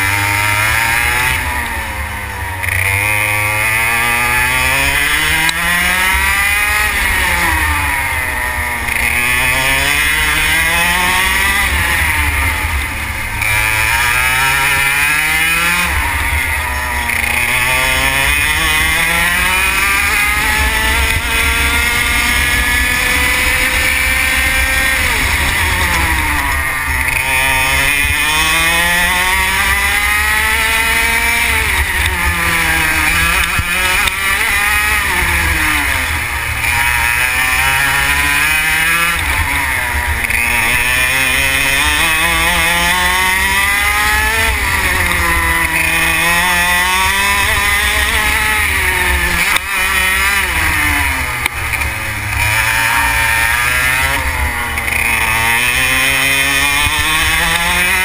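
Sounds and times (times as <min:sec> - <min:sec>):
kart engine at full throttle: 0:00.0 - 0:58.0.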